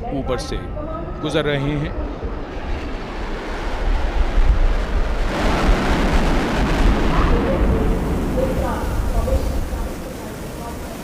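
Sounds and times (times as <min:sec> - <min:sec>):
military aircraft flying overhead: 0:00.0 - 0:11.0.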